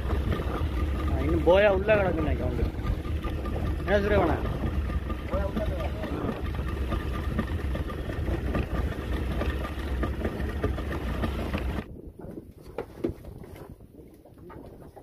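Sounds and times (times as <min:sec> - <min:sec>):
wind and water rushing: 0:00.0 - 0:13.8
boat engine running: 0:00.0 - 0:15.0.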